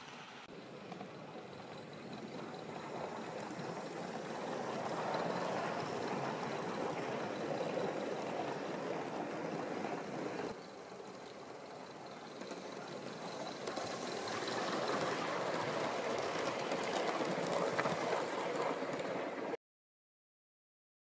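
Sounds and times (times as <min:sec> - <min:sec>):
model steam locomotive passing: 0:00.0 - 0:19.6.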